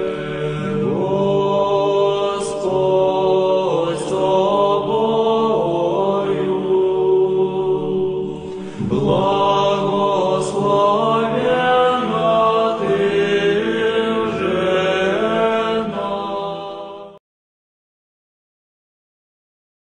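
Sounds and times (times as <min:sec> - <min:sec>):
slow vocal chanting: 0:00.0 - 0:17.2.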